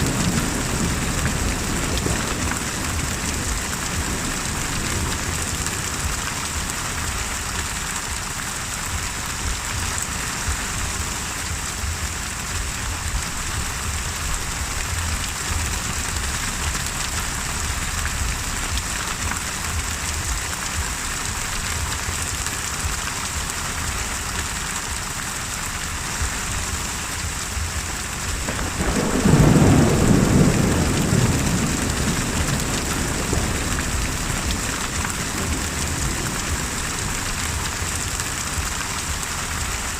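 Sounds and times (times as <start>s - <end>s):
thunder rumbling: 0.0s - 23.0s, 26.2s - 39.7s
heavy rain hissing: 0.0s - 39.9s.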